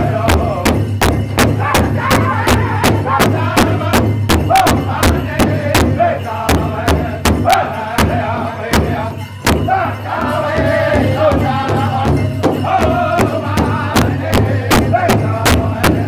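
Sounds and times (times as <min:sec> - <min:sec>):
group singing: 0:00.0 - 0:16.0
large drum steady beat: 0:00.0 - 0:16.0.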